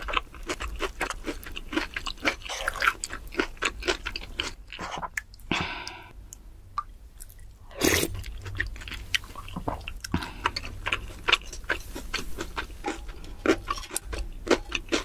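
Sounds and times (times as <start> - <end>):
wet chewing: 0.0 - 6.1, 6.8 - 15.0.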